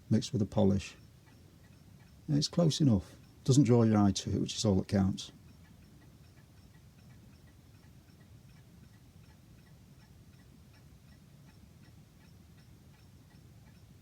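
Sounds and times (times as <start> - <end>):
mechanical clock ticking: 0.0 - 14.0.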